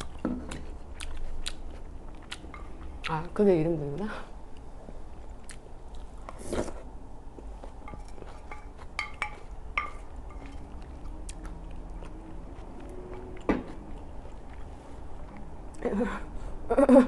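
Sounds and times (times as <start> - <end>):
person chewing close up: 0.0 - 3.2, 5.4 - 15.8.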